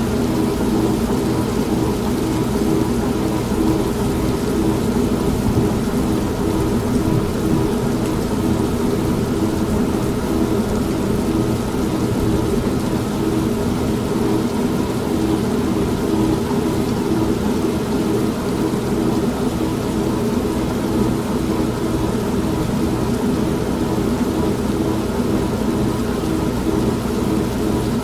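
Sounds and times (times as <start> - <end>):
steady rain: 0.0 - 28.0
washing machine motor hum: 0.0 - 28.0.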